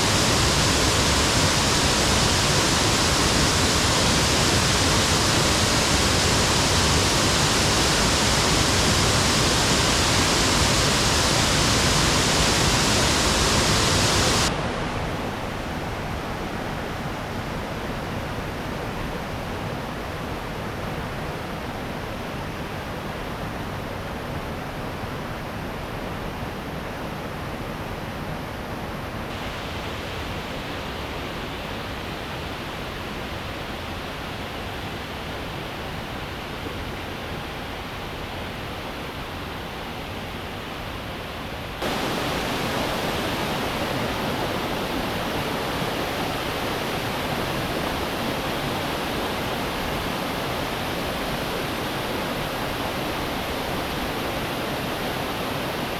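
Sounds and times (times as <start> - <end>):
waterfall and stream rapids: 0.0 - 55.9.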